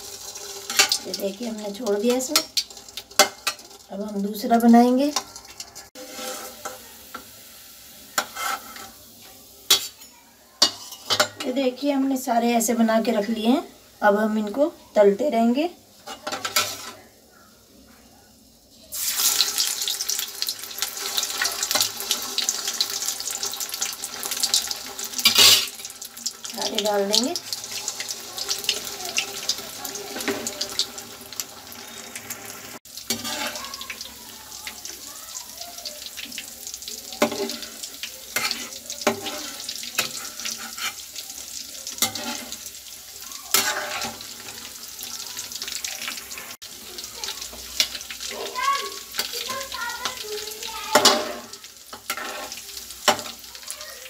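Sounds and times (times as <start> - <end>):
oil sizzling and crackling: 0.0 - 54.0.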